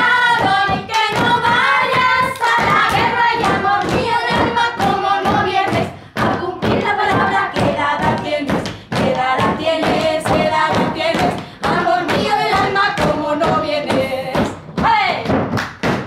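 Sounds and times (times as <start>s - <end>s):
women and girls singing folk song: 0.0s - 15.5s
hands slapping wooden tables: 0.0s - 16.0s.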